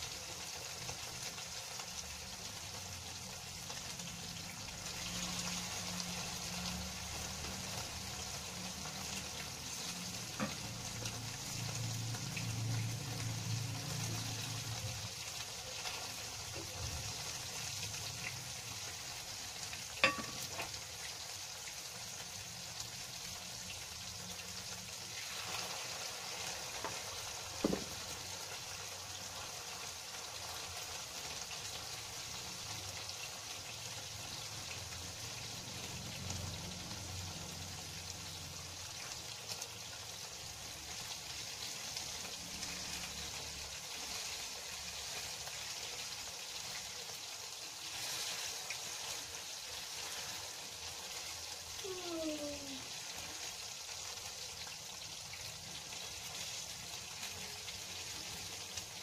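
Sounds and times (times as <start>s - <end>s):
fritters sizzling in oil: 0.0s - 59.0s.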